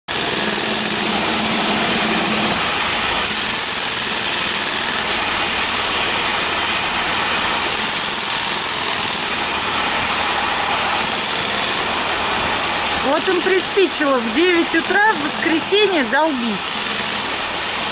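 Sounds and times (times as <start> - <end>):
jackhammers breaking asphalt: 0.1 - 17.9
power unit engine running: 0.1 - 17.9.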